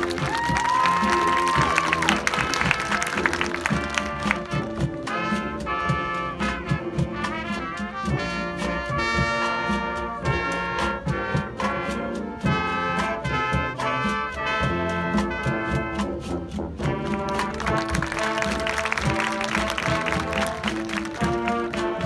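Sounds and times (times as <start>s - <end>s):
trumpets and trombones: 0.0s - 22.0s.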